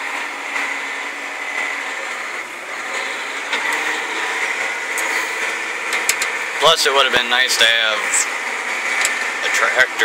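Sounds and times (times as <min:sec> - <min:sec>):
tractor droning from inside cab: 0:00.0 - 0:10.0.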